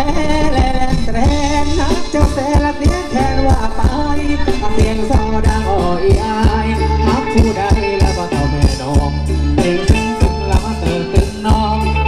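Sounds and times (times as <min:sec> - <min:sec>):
dance band over loudspeakers: 0:00.0 - 0:12.0
steady drum beat: 0:00.0 - 0:12.0.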